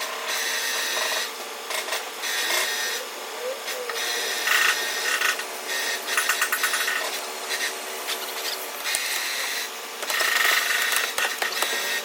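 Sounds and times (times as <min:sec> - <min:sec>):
power tool rasping: 0:00.0 - 0:12.0.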